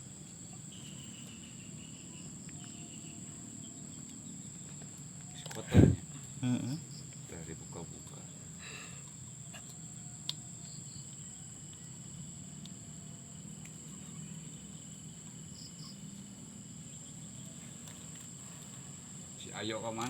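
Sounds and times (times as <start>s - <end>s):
insect chirring: 0.0s - 20.0s.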